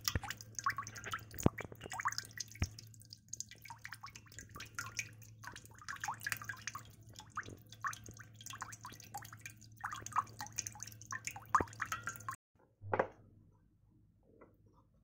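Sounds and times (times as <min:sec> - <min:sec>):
liquid fizzing with small pops: 0:00.0 - 0:12.4.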